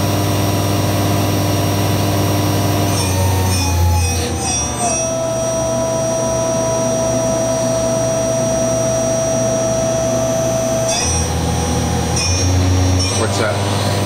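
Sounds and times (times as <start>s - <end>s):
low machine hum: 0.0s - 14.0s
machine spindle whining: 0.0s - 14.0s.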